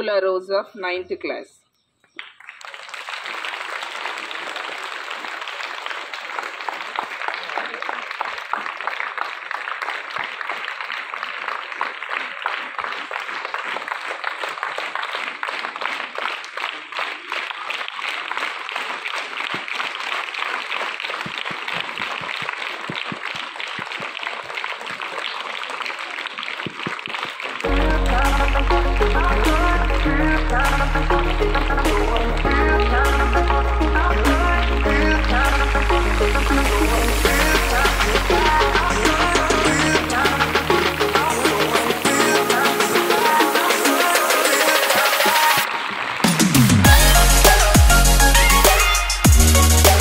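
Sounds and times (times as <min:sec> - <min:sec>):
audience applauding: 0:02.1 - 0:50.0.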